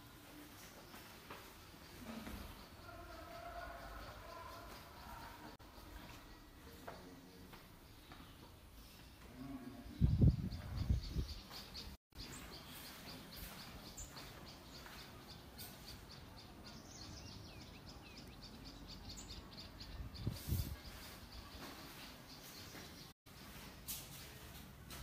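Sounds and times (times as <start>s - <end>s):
birds chirping: 0.3s - 23.8s.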